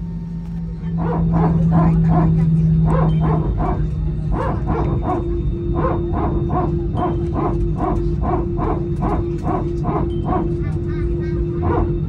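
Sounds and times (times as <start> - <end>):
aircraft engines humming: 0.0 - 12.0
hydraulic unit barking pulses: 0.8 - 12.0.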